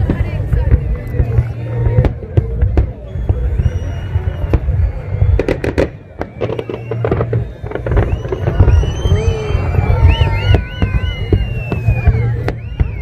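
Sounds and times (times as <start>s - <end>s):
deep rumble: 0.0s - 13.0s
fireworks bangs and crackles: 0.0s - 13.0s.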